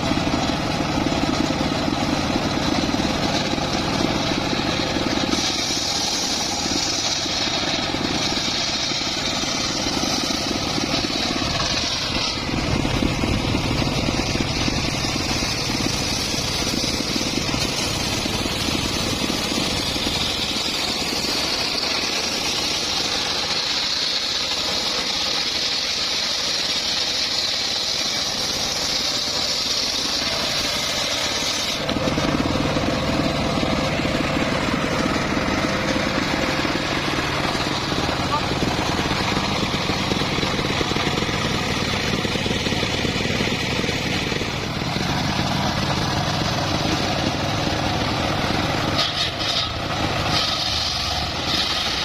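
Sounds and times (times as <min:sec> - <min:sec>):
saw blade cutting log: 0:00.0 - 0:52.0
sawmill motor running: 0:00.0 - 0:52.0.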